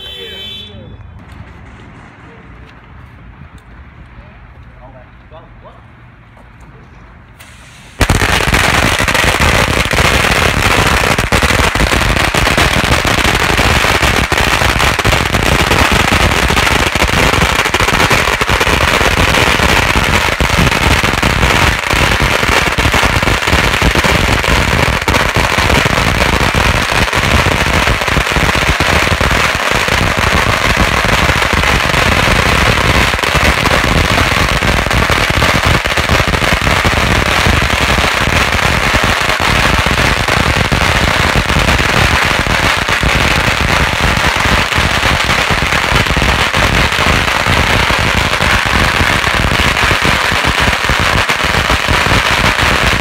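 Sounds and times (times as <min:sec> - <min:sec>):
firecrackers crackling: 0:07.4 - 0:53.0.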